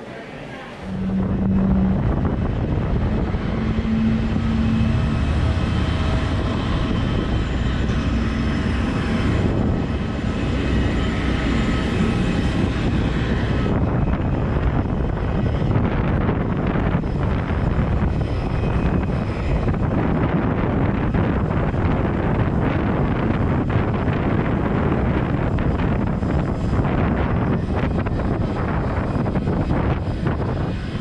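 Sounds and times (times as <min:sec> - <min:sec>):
jet engine noise: 0:00.7 - 0:31.0.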